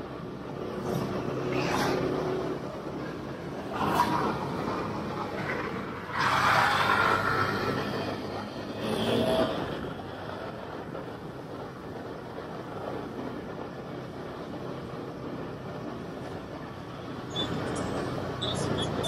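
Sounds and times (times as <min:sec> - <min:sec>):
road noise: 0:00.0 - 0:19.0
vehicles passing: 0:00.0 - 0:19.0.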